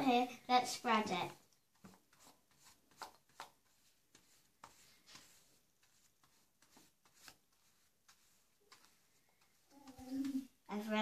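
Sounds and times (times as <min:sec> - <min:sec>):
wet paintbrush rubbing on paper: 0:00.6 - 0:11.0.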